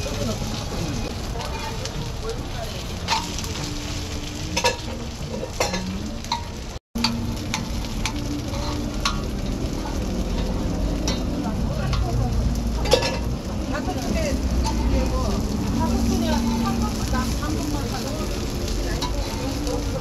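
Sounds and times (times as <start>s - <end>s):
pancake sizzling in oil: 0.0s - 20.0s.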